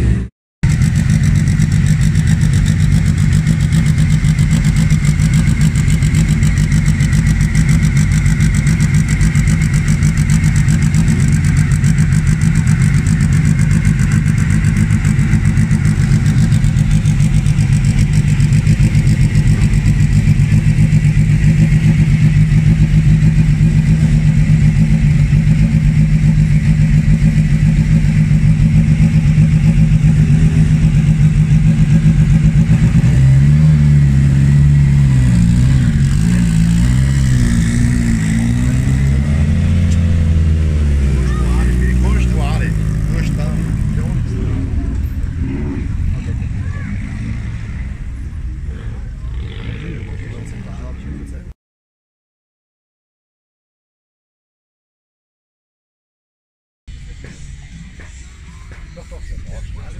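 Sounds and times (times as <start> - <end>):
engine revving in blips: 0.0 - 51.4
race car engine idling: 0.6 - 51.5, 56.9 - 59.9.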